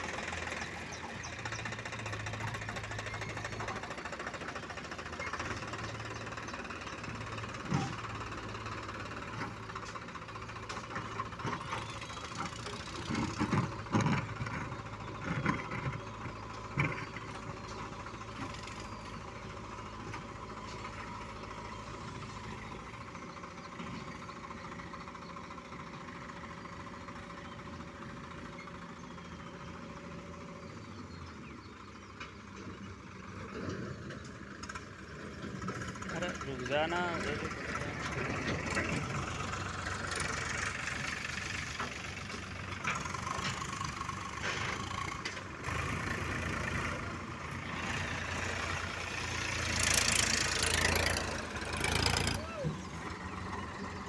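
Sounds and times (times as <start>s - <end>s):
diesel tractor engines running: 0.0s - 54.0s.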